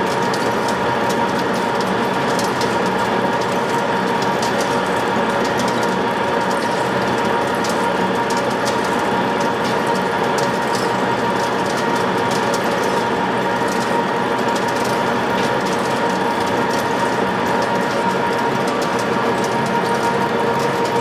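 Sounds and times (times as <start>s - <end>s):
lathe mechanical drone: 0.0s - 21.0s.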